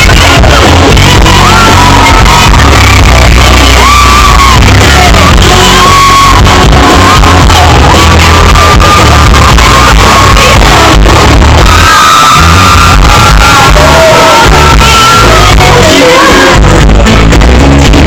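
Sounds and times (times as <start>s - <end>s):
woman singing into microphone: 0.0s - 16.8s
live pop band with heavy bass: 0.0s - 18.0s.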